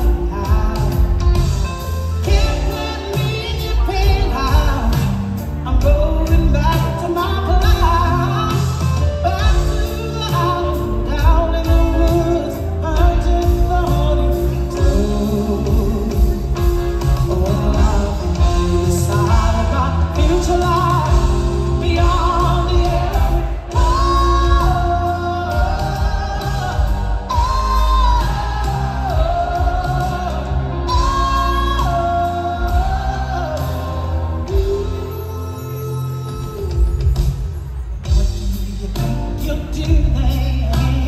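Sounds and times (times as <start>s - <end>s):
band with drums playing: 0.0s - 41.0s
woman singing: 2.2s - 37.0s.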